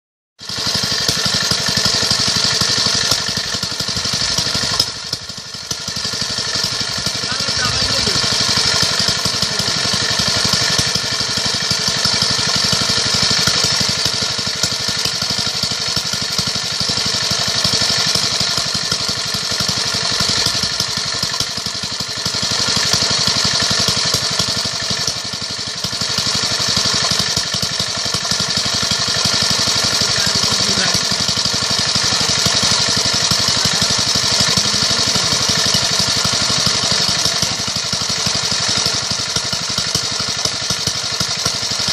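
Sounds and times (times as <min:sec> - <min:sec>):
small engine running steadily: 0:00.4 - 0:41.9.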